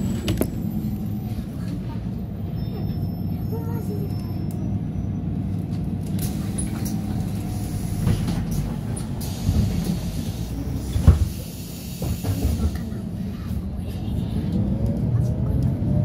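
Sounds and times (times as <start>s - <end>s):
bus engines rumbling: 0.0s - 16.0s.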